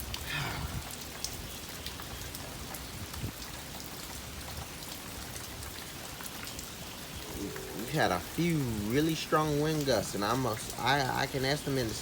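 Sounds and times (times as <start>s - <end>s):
rain falling steadily: 0.0s - 12.0s
raindrops ticking: 0.0s - 12.0s.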